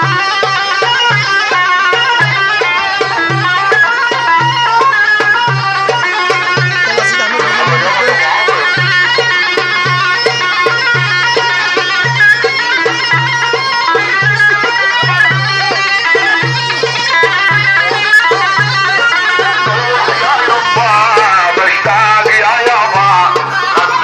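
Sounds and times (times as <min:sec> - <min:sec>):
reedy double-pipe melody: 0:00.0 - 0:24.0.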